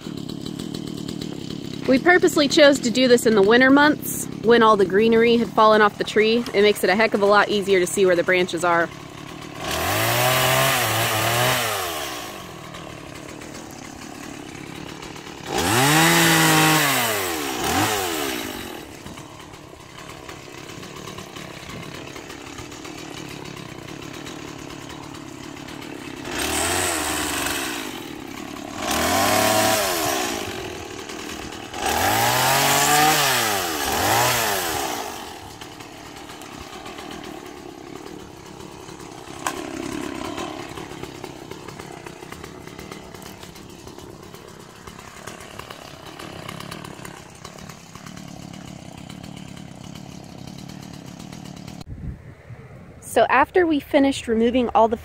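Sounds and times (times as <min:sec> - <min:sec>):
chainsaw revving and idling: 0:00.0 - 0:51.9.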